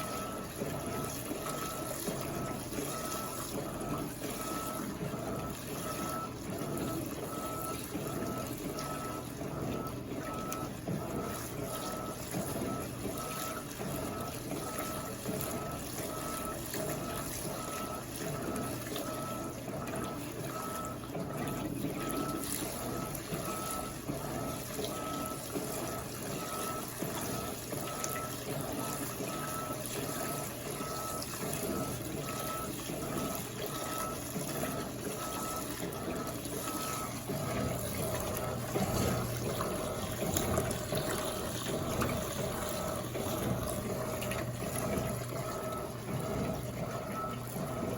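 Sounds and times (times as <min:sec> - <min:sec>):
water flowing into washing machine: 0:00.0 - 0:47.9.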